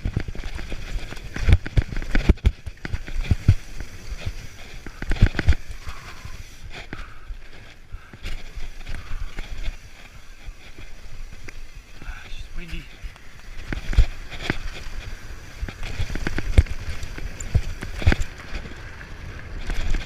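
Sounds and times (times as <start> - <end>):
bike rattling over rough trail: 0.0 - 20.0.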